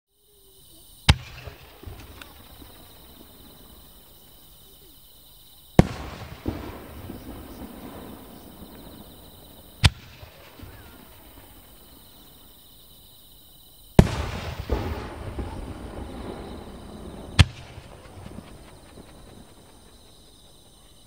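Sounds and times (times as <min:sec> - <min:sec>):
firework shells booming: 0:01.1 - 0:04.8, 0:05.8 - 0:12.6, 0:14.0 - 0:20.6.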